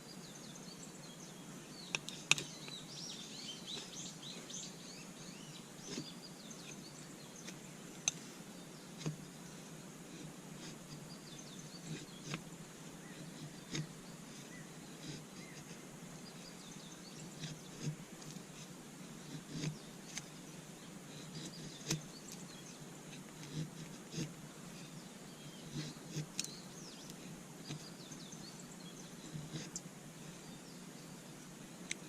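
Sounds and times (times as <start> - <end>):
faint bird chirps: 0.0 - 18.6, 19.3 - 32.0
steady background hiss: 0.0 - 32.0.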